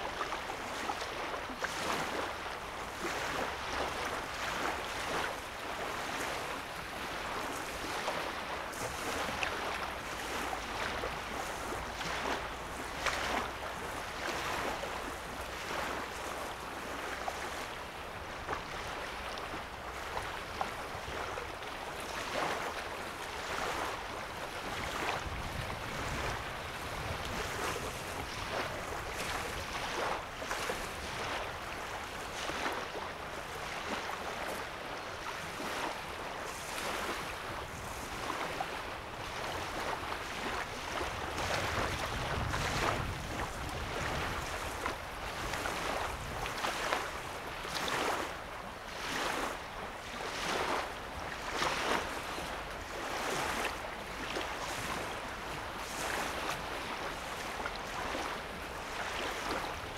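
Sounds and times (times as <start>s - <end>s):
lake waves lapping: 0.0s - 59.9s
soft water splashes: 0.0s - 59.9s.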